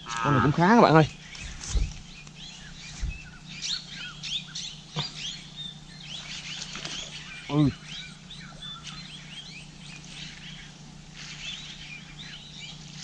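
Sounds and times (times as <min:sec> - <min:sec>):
short chirping bird calls: 0:00.0 - 0:13.0.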